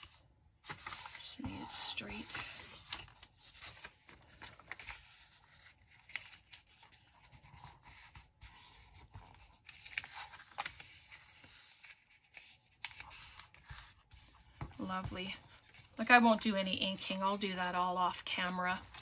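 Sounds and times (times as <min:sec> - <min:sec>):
paper rustling and rubbing: 0:00.0 - 0:19.0.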